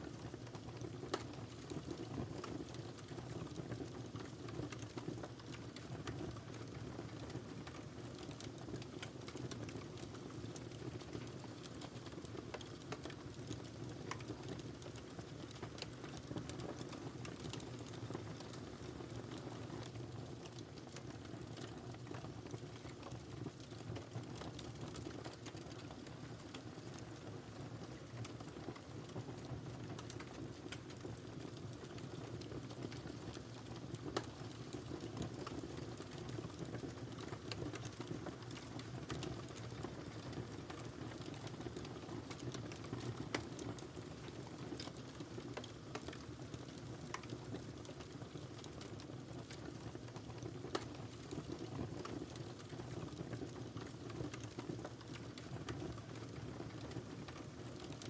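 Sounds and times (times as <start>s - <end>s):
burning wood crackling and popping: 0.1s - 58.0s.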